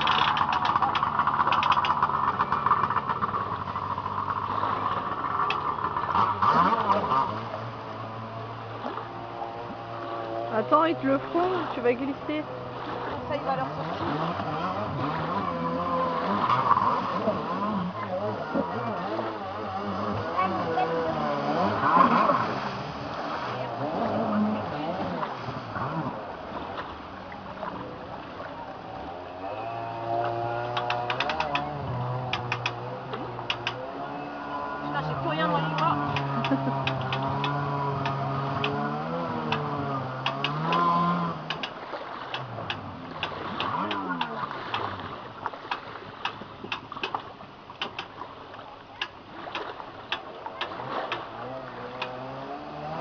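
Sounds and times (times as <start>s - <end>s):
jet ski engine: 0.0s - 53.0s
water rushing: 0.0s - 53.0s.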